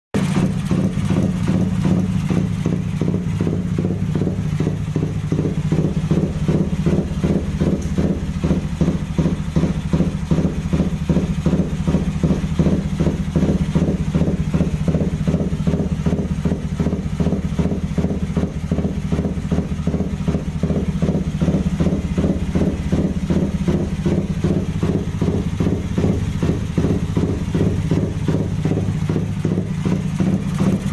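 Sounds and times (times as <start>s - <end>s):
motorcycle engine idling: 0.2s - 30.9s.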